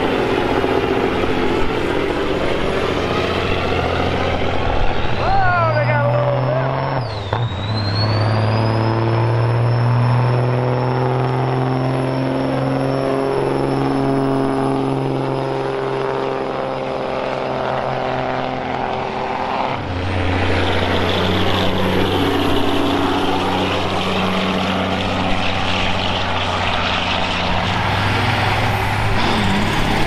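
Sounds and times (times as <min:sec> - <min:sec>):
diesel truck engine droning: 0:00.0 - 0:30.0.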